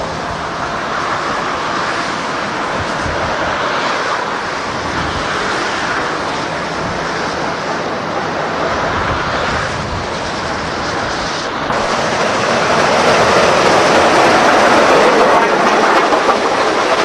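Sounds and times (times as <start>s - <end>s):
train rushing noise: 0.0s - 17.0s
wind on microphone: 0.0s - 17.0s.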